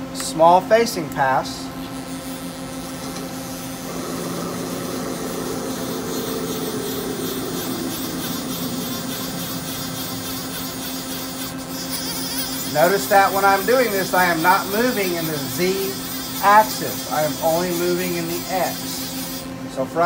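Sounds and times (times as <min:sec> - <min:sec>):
lathe spindle humming: 0:01.9 - 0:19.6
lathe tool cutting metal: 0:02.4 - 0:19.6.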